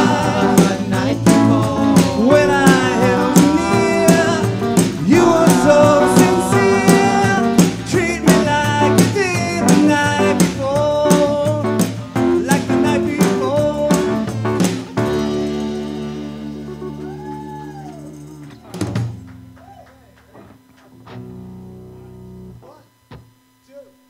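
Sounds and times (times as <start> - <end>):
drum kit: 0.0 - 21.4
bass guitar: 0.0 - 22.6
electric guitar: 0.0 - 22.6.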